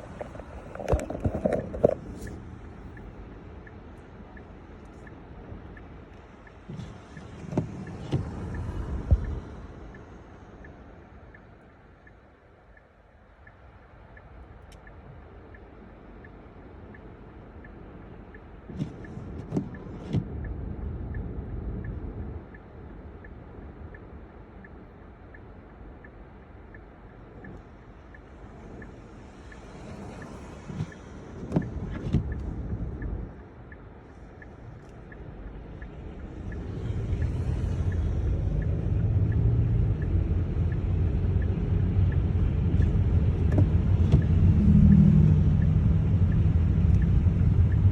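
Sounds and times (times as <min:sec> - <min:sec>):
faint regular ticking: 0:00.0 - 0:44.6, 0:45.3 - 0:47.9
car engine and road rumble: 0:00.0 - 0:47.9.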